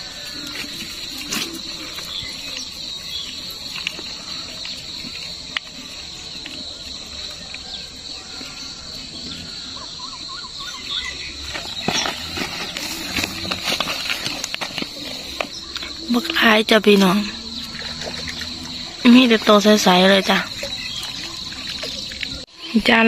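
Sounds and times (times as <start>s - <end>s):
bird chirping: 0.0s - 23.0s
insect drone: 0.0s - 23.0s.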